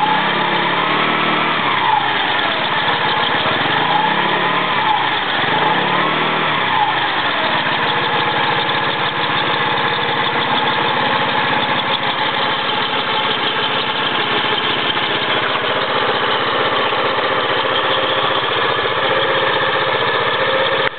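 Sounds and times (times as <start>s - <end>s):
failed bearing whirr: 0.0s - 20.9s
scooter engine running: 0.0s - 20.9s.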